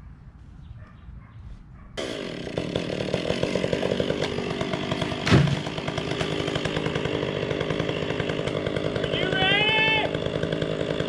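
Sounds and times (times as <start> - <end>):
chainsaw running: 2.0 - 11.0.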